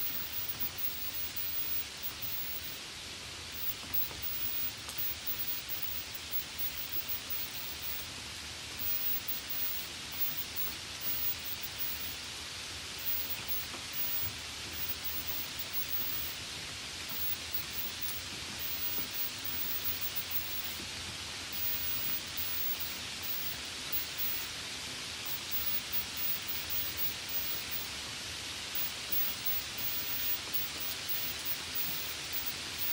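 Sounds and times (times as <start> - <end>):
light rain hiss: 0.0 - 32.9
patter of raindrops: 0.0 - 32.9.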